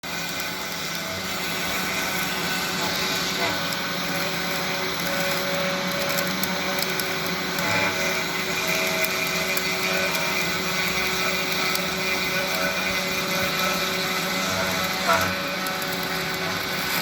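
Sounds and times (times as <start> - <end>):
spindle motor whining: 0.0 - 17.0.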